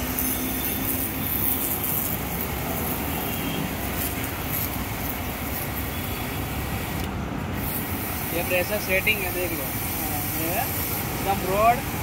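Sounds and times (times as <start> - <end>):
pressure washer water jet hissing: 0.0 - 12.0.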